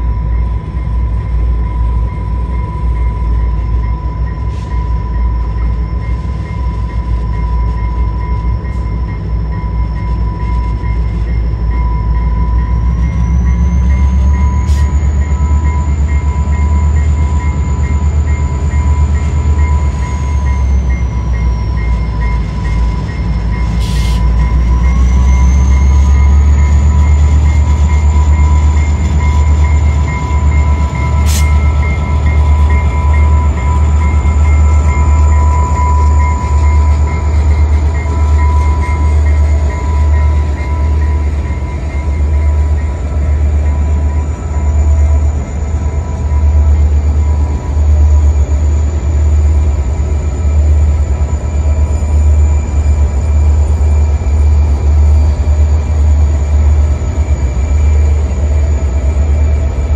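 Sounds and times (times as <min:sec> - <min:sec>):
locomotive engine rumble: 0:00.0 - 0:59.9.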